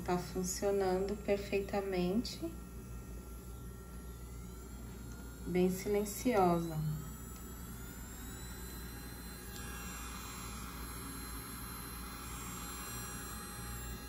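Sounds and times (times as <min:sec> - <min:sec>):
nail drill motor whine: 0:00.0 - 0:14.0.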